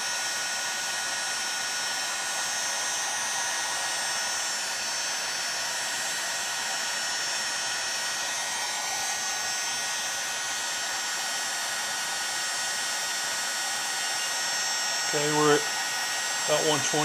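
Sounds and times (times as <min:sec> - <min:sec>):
fan motor whine: 0:00.0 - 0:17.0
heat gun blowing air: 0:00.0 - 0:17.0.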